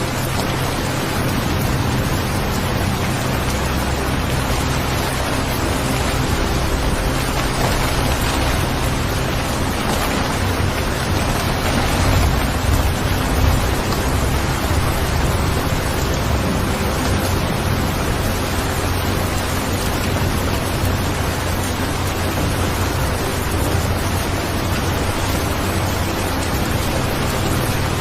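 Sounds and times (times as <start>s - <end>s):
low rumble: 0.0s - 28.0s
steady rain hiss: 0.0s - 28.0s.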